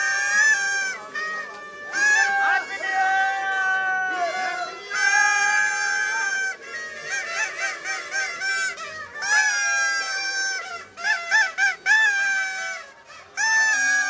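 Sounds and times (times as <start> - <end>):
party blower horn honking: 0.0 - 14.0.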